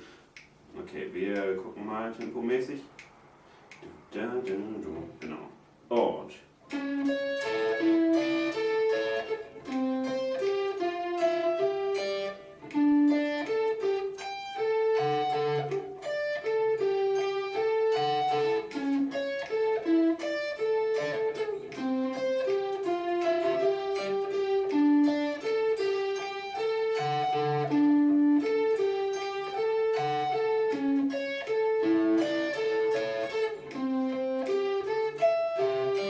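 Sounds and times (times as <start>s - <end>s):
electric guitar riff: 6.6s - 36.0s.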